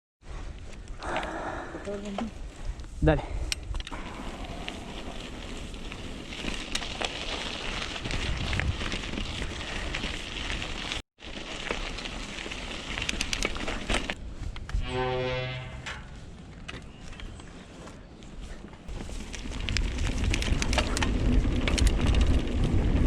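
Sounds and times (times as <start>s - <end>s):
bike clicks and rattles: 3.4s - 14.8s, 15.9s - 23.0s
bike tyres crackling on dirt: 3.6s - 23.0s.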